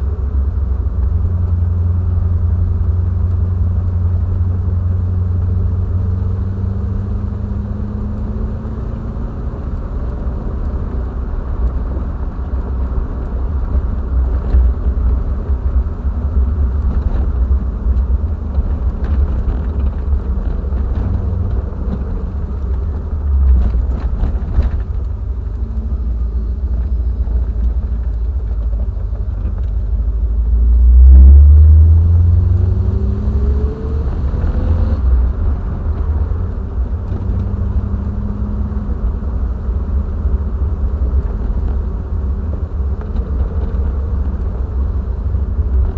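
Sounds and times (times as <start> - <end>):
car engine rumbling: 0.0 - 45.9.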